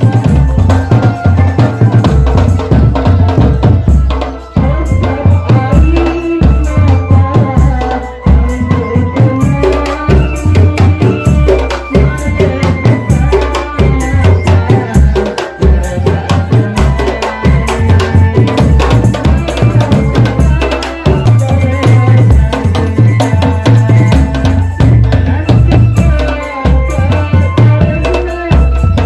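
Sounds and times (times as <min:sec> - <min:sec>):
drum band playing: 0:00.0 - 0:29.0.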